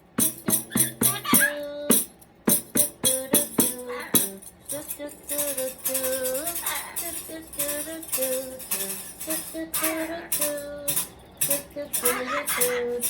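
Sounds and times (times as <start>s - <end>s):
rattling shaker percussion: 0.0s - 13.0s.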